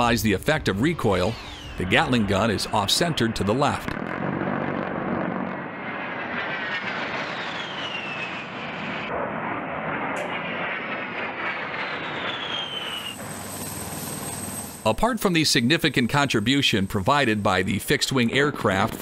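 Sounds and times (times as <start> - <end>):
jet engines passing overhead: 0.0 - 19.0.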